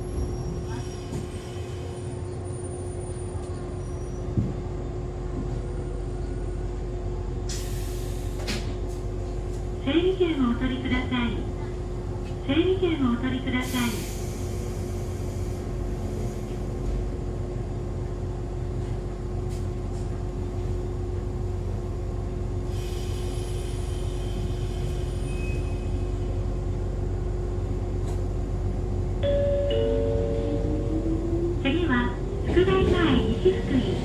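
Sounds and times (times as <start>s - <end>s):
railcar hum and rumble: 0.0s - 34.0s.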